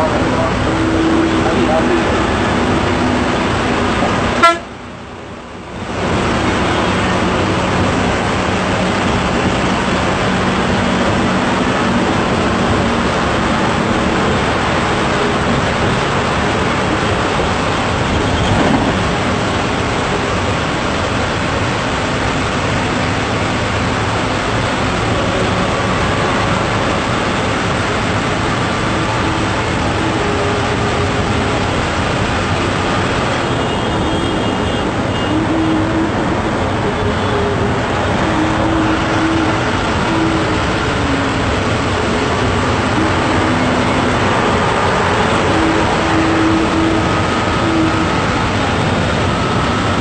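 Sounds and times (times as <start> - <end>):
bus engine hum: 0.0 - 50.0.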